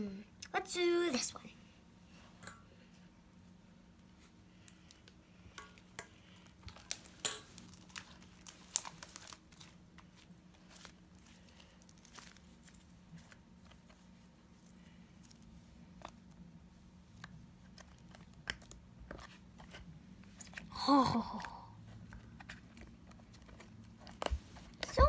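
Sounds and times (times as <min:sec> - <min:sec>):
sticky slime crackling: 0:04.7 - 0:25.0.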